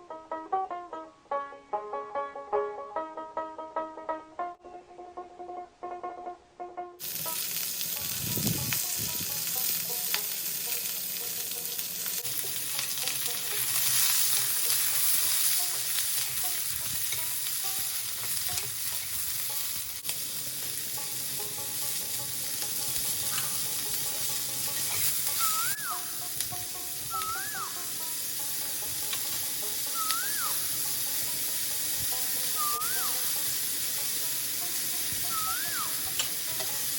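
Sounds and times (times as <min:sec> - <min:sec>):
food frying in hot oil: 0:07.0 - 0:36.9.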